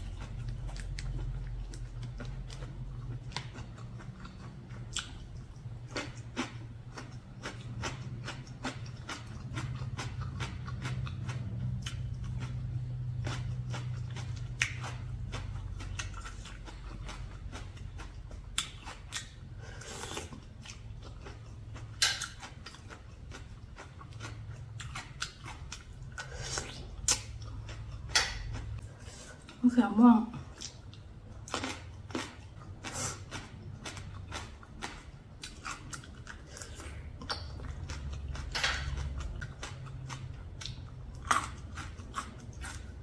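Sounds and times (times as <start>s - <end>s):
chewing and crunching: 0.0s - 29.7s, 30.4s - 43.0s
steady low hum: 0.0s - 43.0s.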